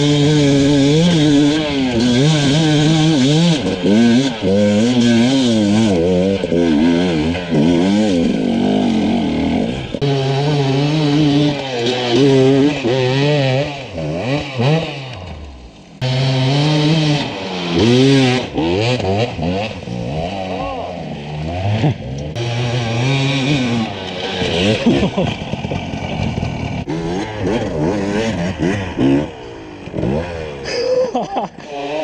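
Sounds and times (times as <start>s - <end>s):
dirt bike engine under load: 0.0s - 32.0s.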